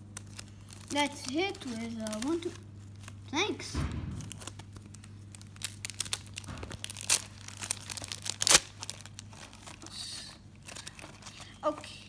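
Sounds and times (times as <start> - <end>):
foil wrapper ripping: 0.0 - 3.3, 4.2 - 11.9
foil wrapper crinkling: 0.0 - 12.0.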